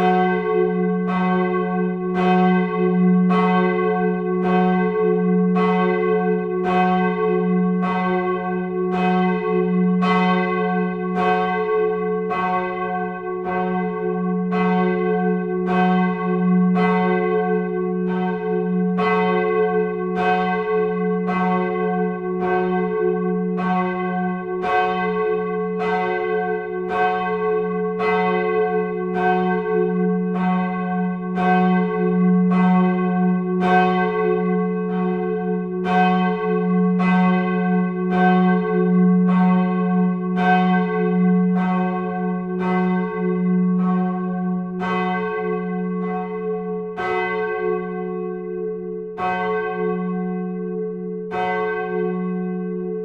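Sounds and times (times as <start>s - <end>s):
church bells ringing: 0.0s - 53.0s.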